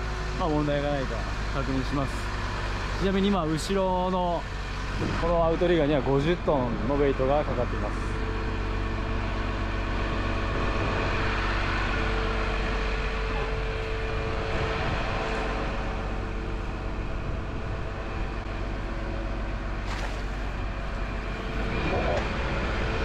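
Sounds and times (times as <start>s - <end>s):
crane diesel engine running: 0.0s - 23.0s.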